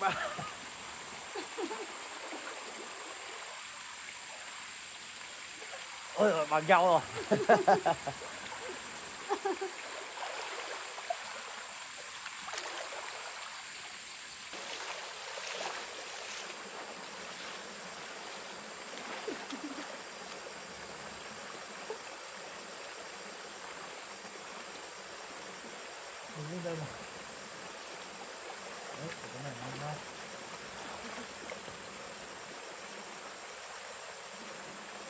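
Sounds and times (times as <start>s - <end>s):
high insect drone: 0.0s - 35.0s
stream flowing: 0.0s - 35.0s.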